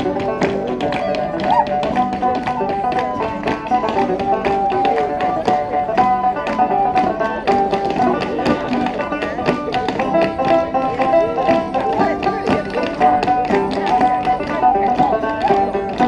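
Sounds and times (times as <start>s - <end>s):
clogs striking wooden board: 0.0s - 16.0s
folk band playing dance tune: 0.0s - 16.0s.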